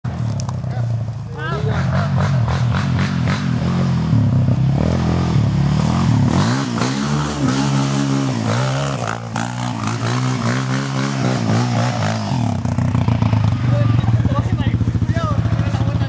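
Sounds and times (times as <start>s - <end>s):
quad bike engine revving: 0.7s - 16.0s.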